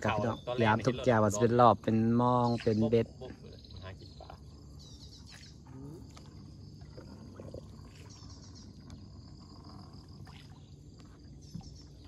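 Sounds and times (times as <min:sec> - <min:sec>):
insects chirping trills: 0:00.0 - 0:12.0.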